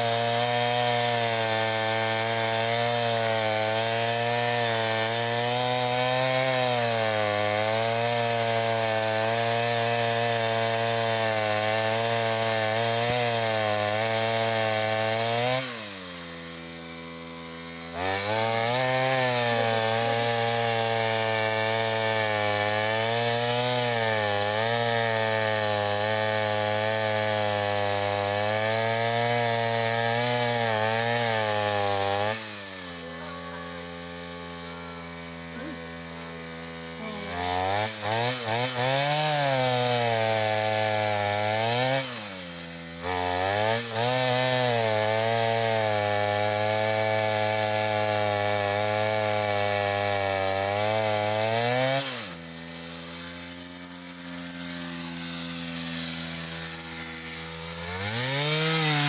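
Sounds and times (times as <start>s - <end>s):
engine saw cutting wood: 0.0s - 59.0s.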